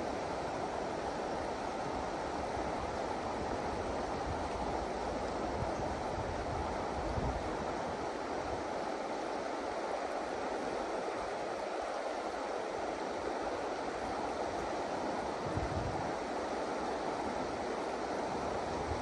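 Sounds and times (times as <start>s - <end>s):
river water rushing over rocks: 0.0s - 19.0s.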